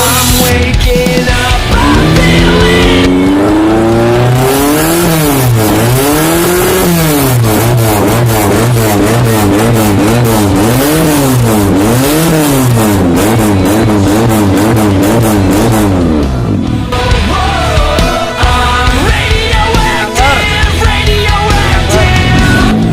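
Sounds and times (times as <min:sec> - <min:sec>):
engine revving with raspy exhaust: 0:00.0 - 0:22.9.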